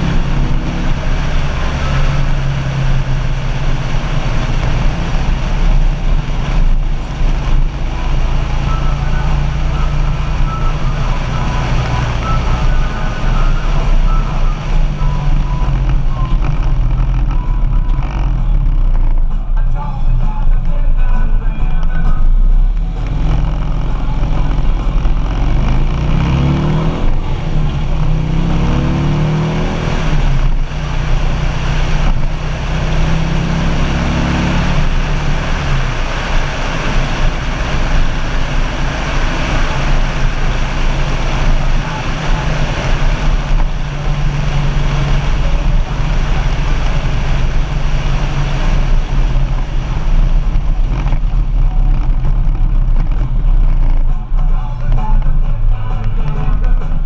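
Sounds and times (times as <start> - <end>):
motorcycle engine shifting up: 0.0 - 57.0
wind and road noise: 0.0 - 57.0.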